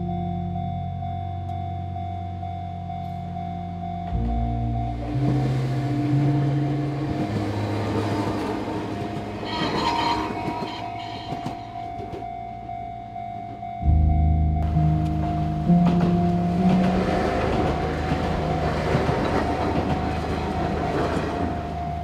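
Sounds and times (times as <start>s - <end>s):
background music: 0.0s - 22.0s
train passing: 4.2s - 22.0s.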